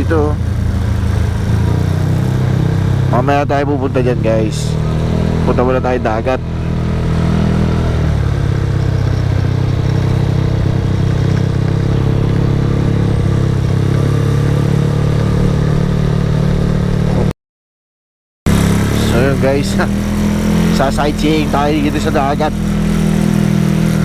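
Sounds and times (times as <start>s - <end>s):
motorcycle engine running: 0.0s - 17.3s, 18.5s - 24.0s
road noise: 0.0s - 17.3s, 18.5s - 24.0s.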